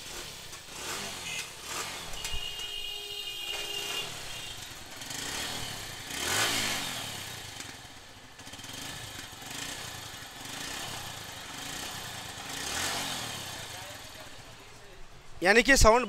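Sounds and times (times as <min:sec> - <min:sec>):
motorcycle engine idling and revving: 0:00.0 - 0:15.4.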